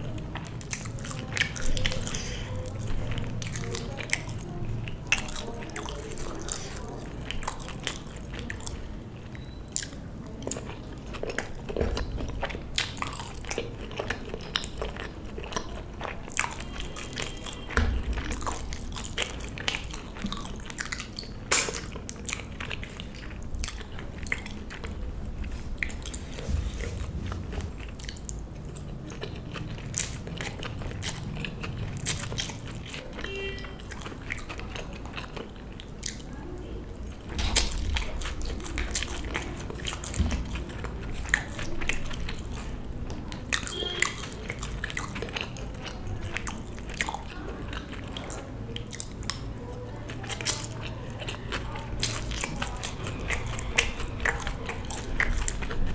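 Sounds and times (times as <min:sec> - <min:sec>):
person chewing crunchy food: 0:00.0 - 0:55.9.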